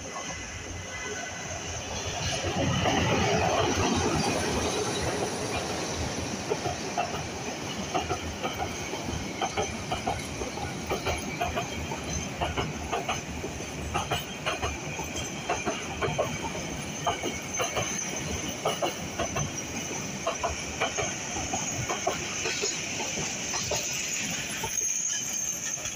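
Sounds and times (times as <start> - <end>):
train wheels clacking on rails: 0.0 - 25.9.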